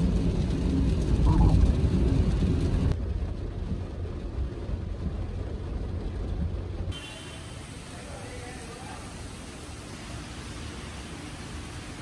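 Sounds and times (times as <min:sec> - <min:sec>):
car road and engine rumble: 0:00.0 - 0:12.0
rain noise: 0:00.0 - 0:12.0.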